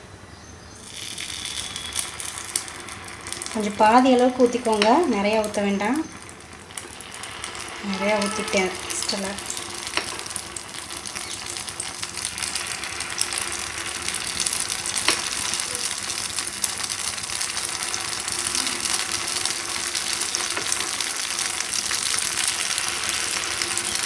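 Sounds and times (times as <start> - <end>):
batter sizzling in hot oil: 0.8 - 24.0.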